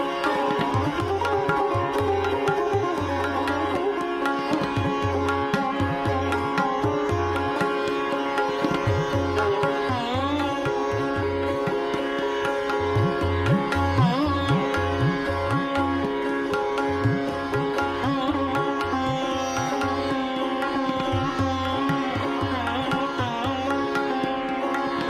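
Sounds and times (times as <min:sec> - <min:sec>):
plucked string melody: 0:00.0 - 0:25.0.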